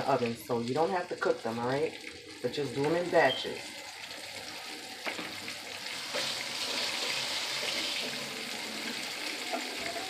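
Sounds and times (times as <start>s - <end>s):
meatballs sizzling in oil: 0.0s - 10.0s.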